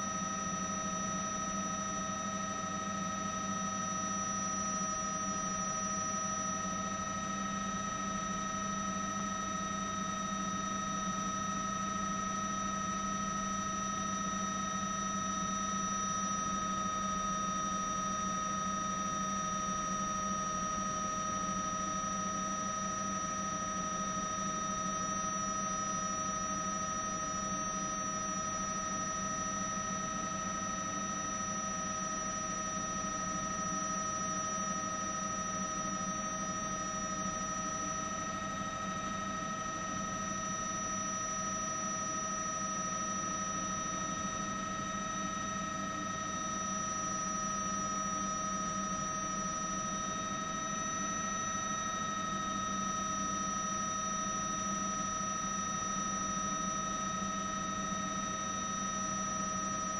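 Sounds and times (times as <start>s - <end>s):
constant high-pitched tones: 0.0s - 59.9s.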